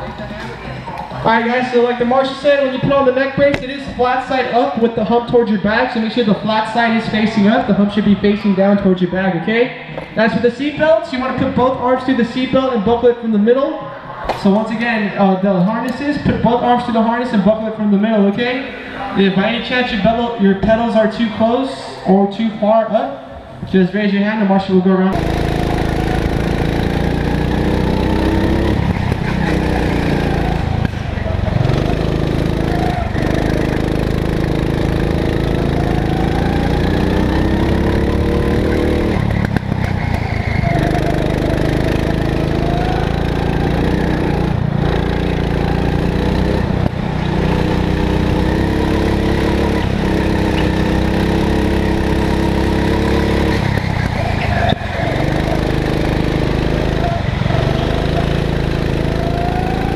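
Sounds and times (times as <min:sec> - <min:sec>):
go-kart engine running hard: 0:00.0 - 0:14.8, 0:25.1 - 0:59.9.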